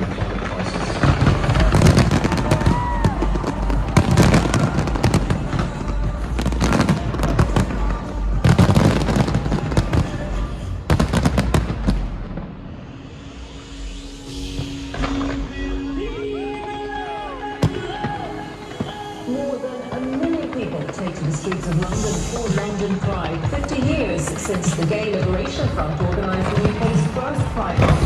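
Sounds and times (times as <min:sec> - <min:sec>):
fireworks bangs and crackles: 0:00.0 - 0:13.1, 0:17.4 - 0:28.0
music: 0:00.0 - 0:28.0.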